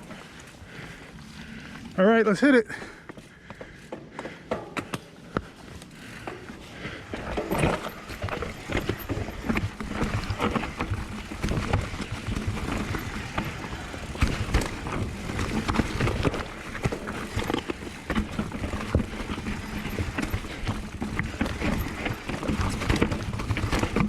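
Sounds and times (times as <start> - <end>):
mountain bike rattling over rocks: 0.0 - 24.0.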